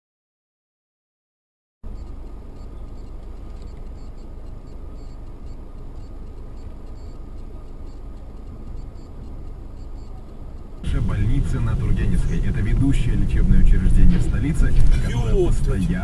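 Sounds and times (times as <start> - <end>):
car driving rumble: 1.9 - 16.0.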